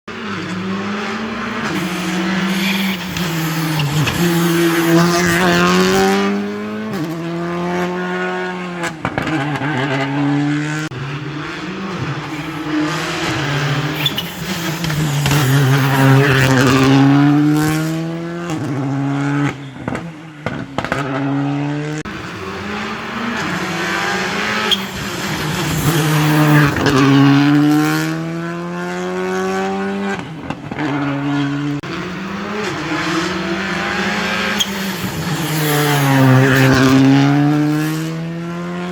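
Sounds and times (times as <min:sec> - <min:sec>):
rally car engine revving: 0:00.1 - 0:38.9.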